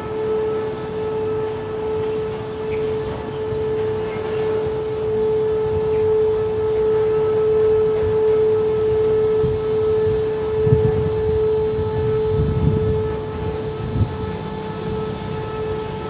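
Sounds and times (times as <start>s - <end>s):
freight train wheels rumbling: 0.0s - 16.0s
loud steady whine: 0.0s - 16.0s.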